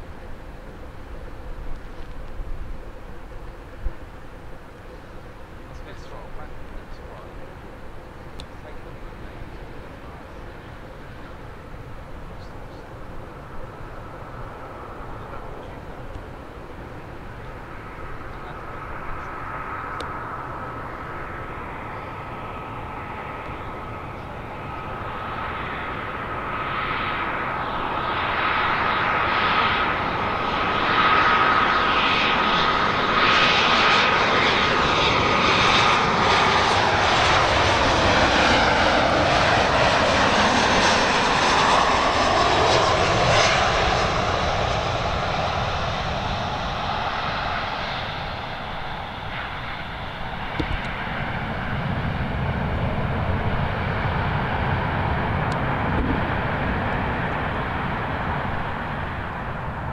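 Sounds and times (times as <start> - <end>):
jet airliner passing: 0.0 - 59.9
jet engine whine: 0.0 - 59.9.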